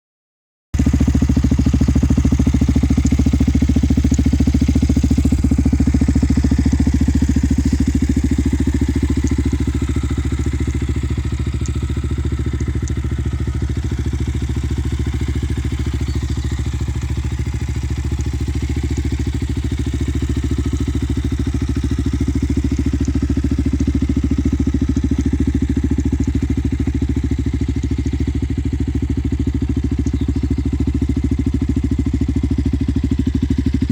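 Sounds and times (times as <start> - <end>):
motorcycle engine idling: 0.8 - 33.9.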